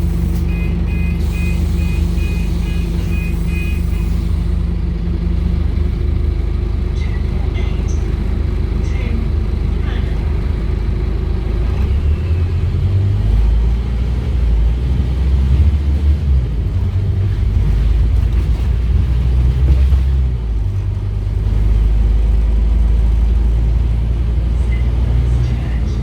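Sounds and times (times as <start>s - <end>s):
bus diesel engine rumbling: 0.0s - 26.0s.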